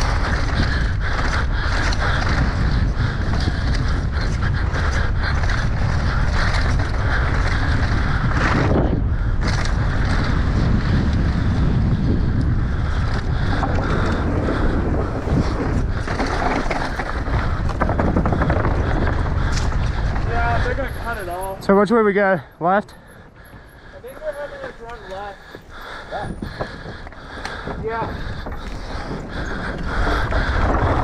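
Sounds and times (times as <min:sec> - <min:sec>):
bike rattling: 0:00.0 - 0:31.0
bike tyres on dry dirt: 0:00.0 - 0:31.0
wind buffeting microphone: 0:00.0 - 0:31.0.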